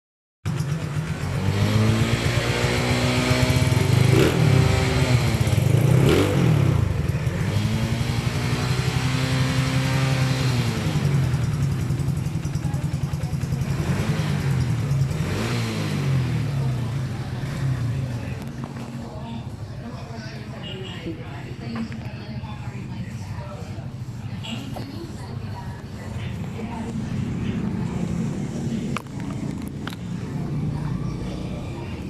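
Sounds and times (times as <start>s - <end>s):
scooter engine revving: 0.5s - 19.6s, 23.7s - 32.0s.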